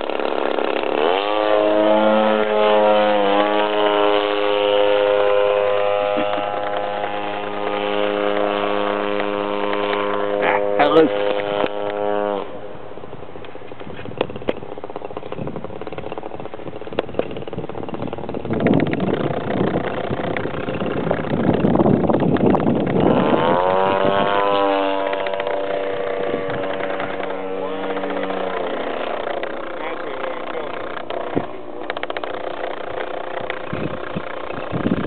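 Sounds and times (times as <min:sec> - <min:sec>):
model plane engine: 0:00.0 - 0:35.0.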